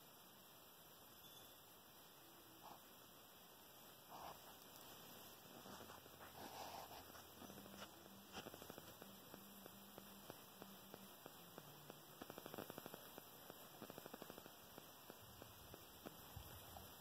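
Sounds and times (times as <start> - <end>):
steady faint hum: 0.0 - 17.0.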